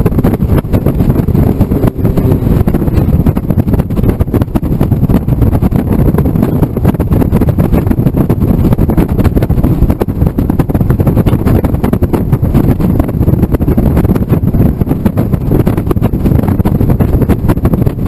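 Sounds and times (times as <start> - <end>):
road noise: 0.0 - 15.7
wind buffeting: 0.0 - 18.0.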